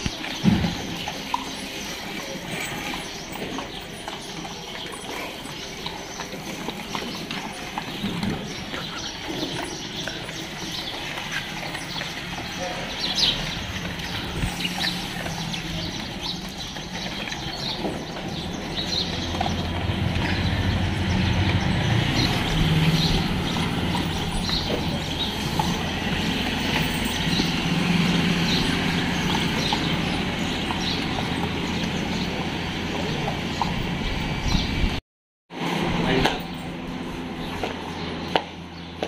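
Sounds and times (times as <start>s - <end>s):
low motor hum: 0.0s - 35.0s.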